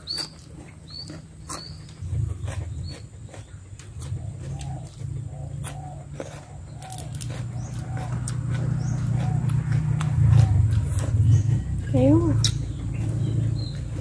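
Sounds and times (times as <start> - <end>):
steady low rumble: 0.4 - 14.0.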